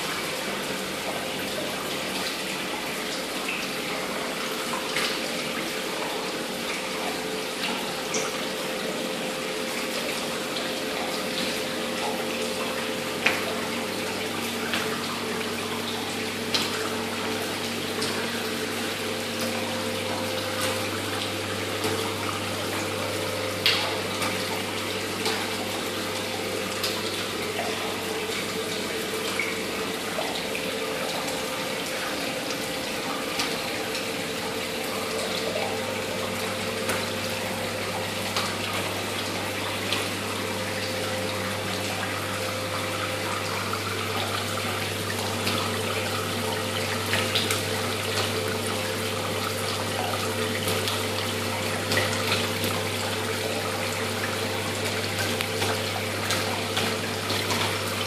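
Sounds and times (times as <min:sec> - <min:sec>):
water spraying down urinal wall: 0:00.0 - 0:58.0.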